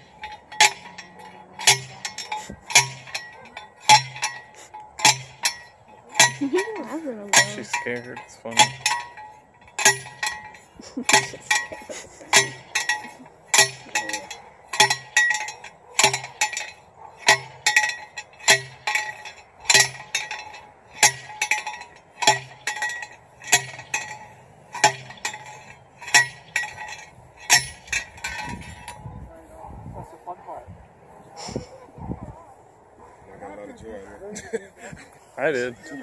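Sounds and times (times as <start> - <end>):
metal rod clanking into soil: 0.0 - 29.1
light metal clinks: 0.0 - 29.2.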